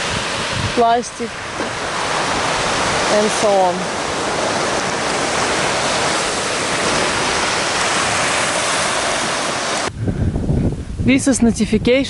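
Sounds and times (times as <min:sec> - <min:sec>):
surf breaking on a beach: 0:00.0 - 0:10.8.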